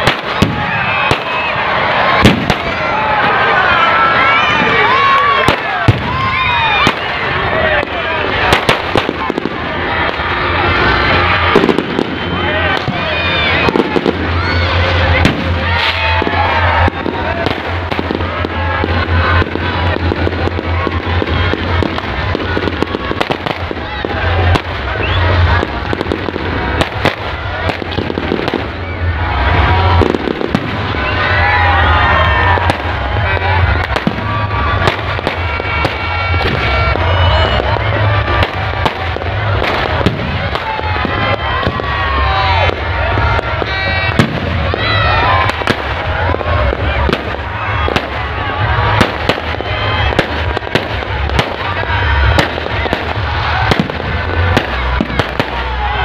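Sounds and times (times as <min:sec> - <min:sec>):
fireworks bursting with bangs: 0:00.0 - 0:56.0
fireworks crackle: 0:00.0 - 0:56.0.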